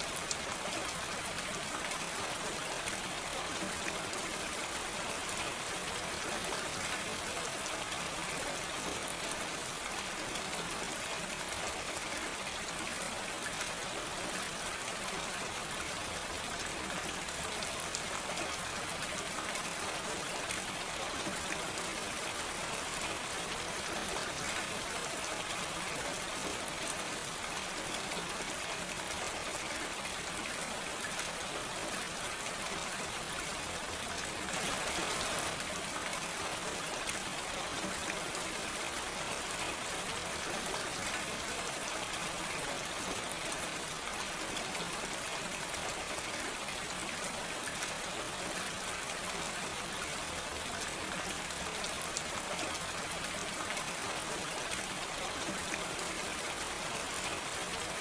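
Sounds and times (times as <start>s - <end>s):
gentle rain: 0.0s - 58.0s.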